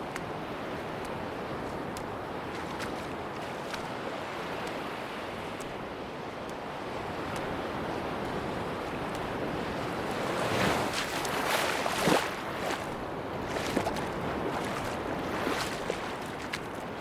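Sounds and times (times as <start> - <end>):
sea waves washing on beach: 0.0 - 17.0
small water splashes: 0.0 - 17.0.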